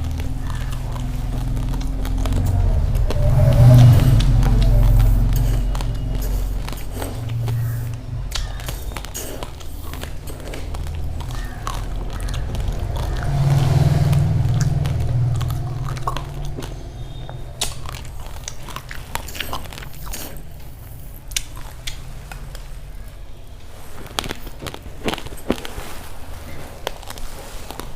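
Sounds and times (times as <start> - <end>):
low rumble: 0.0 - 23.5
crunching raw rice: 0.0 - 27.9.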